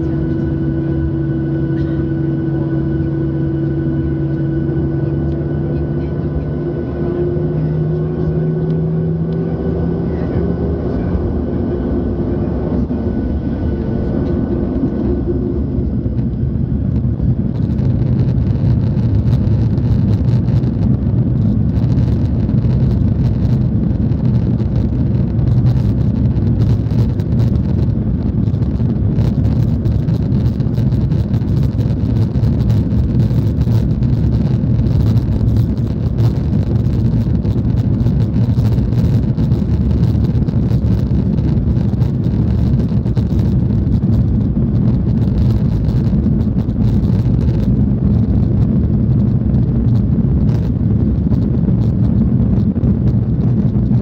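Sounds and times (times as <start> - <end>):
jet engines steady tones: 0.0 - 54.0
jet takeoff roll rumble: 0.0 - 54.0.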